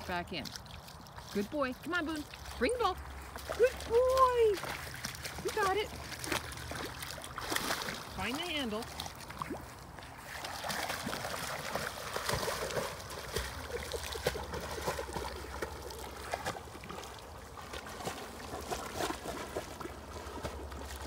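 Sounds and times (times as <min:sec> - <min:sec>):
dog splashing in water: 0:00.0 - 0:21.0.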